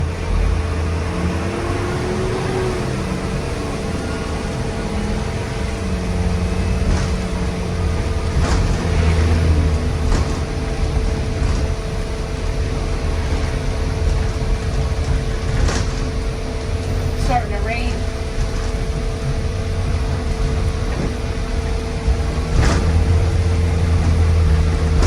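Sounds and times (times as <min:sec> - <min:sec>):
bus engine rumbling: 0:00.0 - 0:25.0
engine cooling fan tone: 0:00.0 - 0:25.0.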